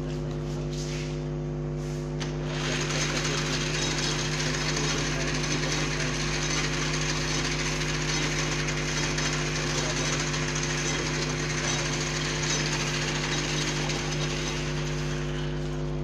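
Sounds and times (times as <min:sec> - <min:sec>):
lathe humming: 0:02.2 - 0:16.0
hissing rattle: 0:02.6 - 0:15.6.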